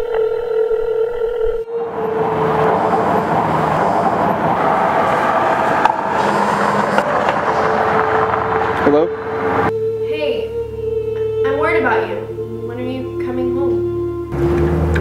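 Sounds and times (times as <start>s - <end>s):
held tone of film music: 0.0s - 15.0s
street traffic: 1.6s - 15.0s.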